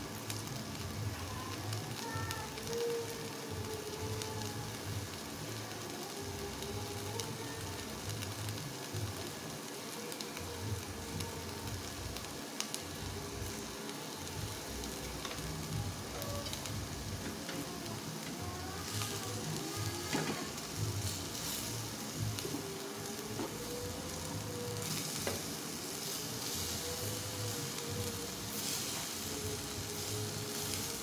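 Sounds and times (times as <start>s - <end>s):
meat sizzling on a grill pan: 0.0s - 31.0s.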